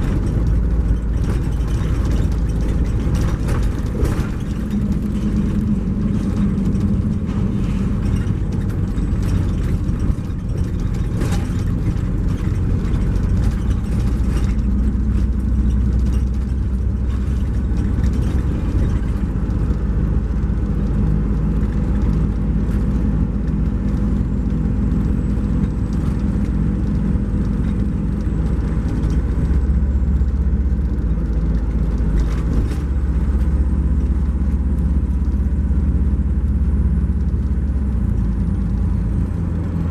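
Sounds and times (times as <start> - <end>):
light rattles: 0.0 - 35.7
diesel engine drone: 0.0 - 39.9
road noise: 0.0 - 39.9.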